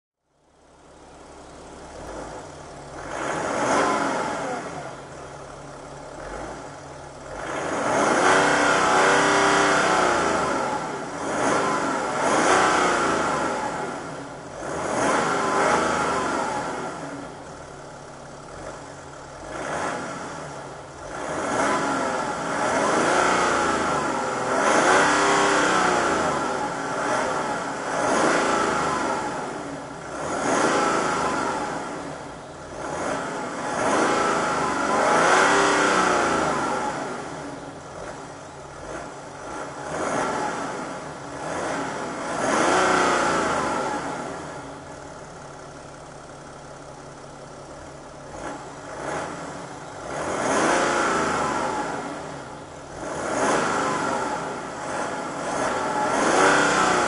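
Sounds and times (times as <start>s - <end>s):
diesel engine revving: 0.5s - 57.0s.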